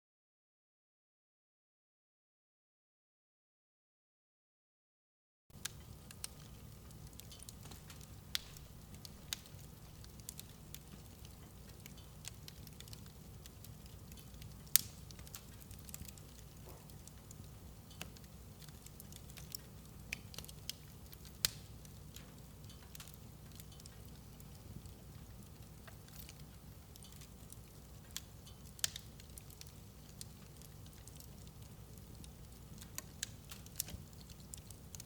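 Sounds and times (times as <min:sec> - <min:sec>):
fire crackling in fireplace: 0:05.5 - 0:35.0
sharp pops of fire: 0:05.6 - 0:35.0.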